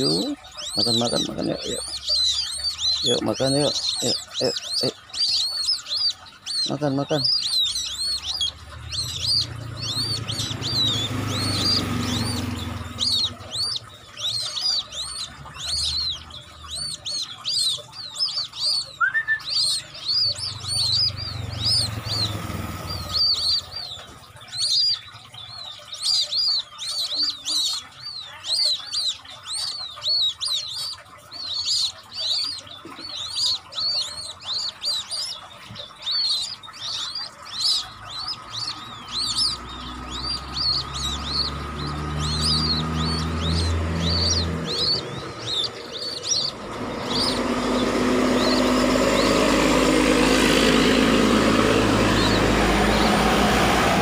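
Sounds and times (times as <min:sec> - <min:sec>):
chicks peeping: 0:00.0 - 0:54.0
low rumble of road traffic: 0:00.0 - 0:54.0.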